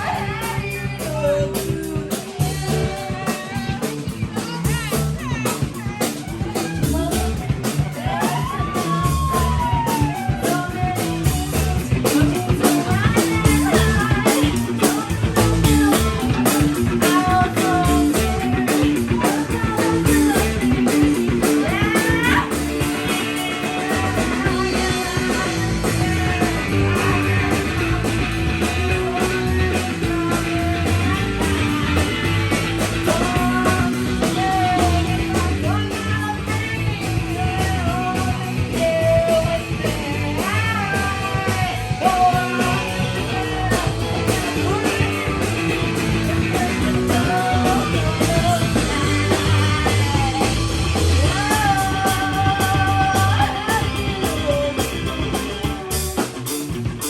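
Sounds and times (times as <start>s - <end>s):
person singing: 0.0s - 56.7s
live rock band playing: 0.0s - 57.0s.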